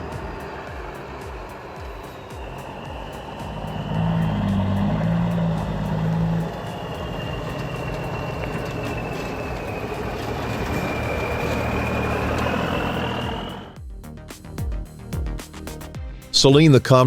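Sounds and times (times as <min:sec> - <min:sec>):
road noise: 0:00.0 - 0:13.8
truck diesel engine pulling: 0:00.0 - 0:13.8.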